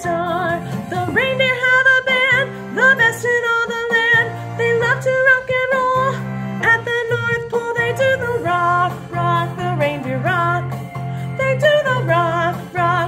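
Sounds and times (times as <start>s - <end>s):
instrumental backing music: 0.0s - 13.0s.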